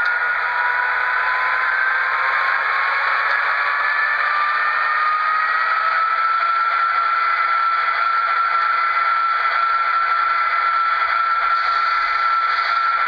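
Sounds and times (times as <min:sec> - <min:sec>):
constant high whine: 0:00.0 - 0:13.0.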